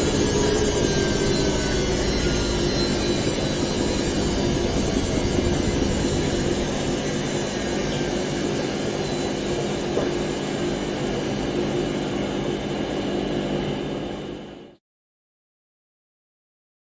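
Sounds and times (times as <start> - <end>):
washing machine spinning: 0.0 - 14.6.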